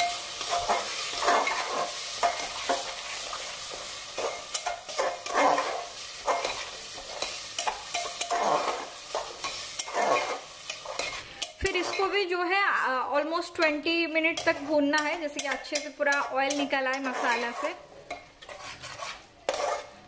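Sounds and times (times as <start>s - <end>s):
spices frying in oil: 0.0s - 20.0s
spatula scraping pot: 0.4s - 12.2s, 13.6s - 20.0s.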